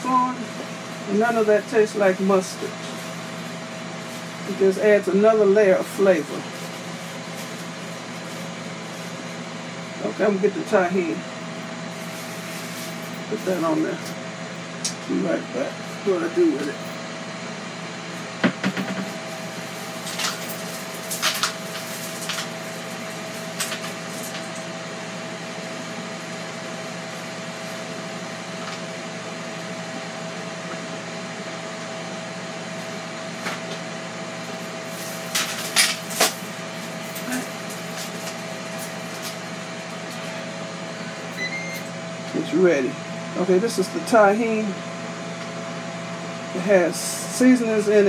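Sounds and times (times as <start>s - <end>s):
kitchen appliance humming: 0.0s - 48.0s.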